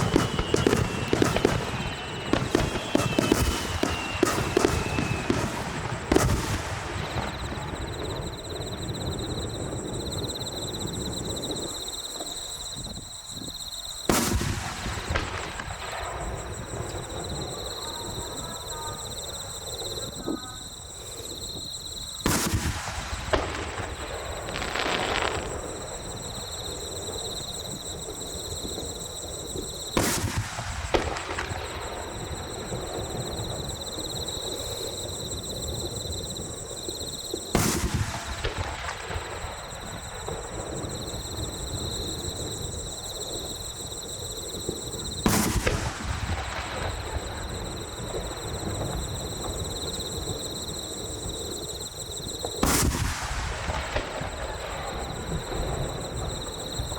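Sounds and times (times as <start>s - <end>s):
firework shells booming: 0.0s - 36.6s, 37.2s - 56.9s
firework crackle: 0.0s - 56.9s.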